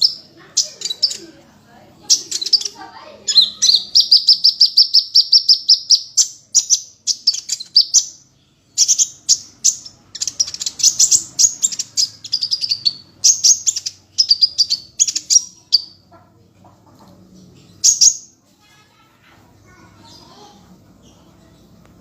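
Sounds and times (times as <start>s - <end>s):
songbird singing: 0.0s - 18.4s, 19.5s - 22.0s.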